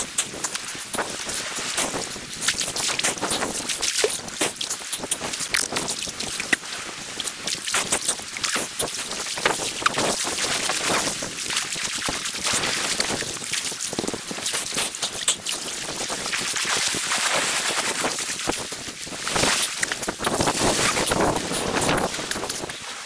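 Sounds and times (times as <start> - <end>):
surf washing over rocks: 0.0 - 23.0
shallow water splashing: 0.8 - 22.7.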